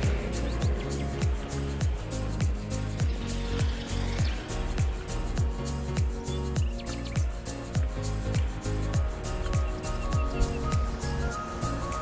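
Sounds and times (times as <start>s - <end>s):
deep kick drum: 0.0s - 11.0s
hi-hats: 0.0s - 12.0s
sustained bass line: 0.0s - 12.0s.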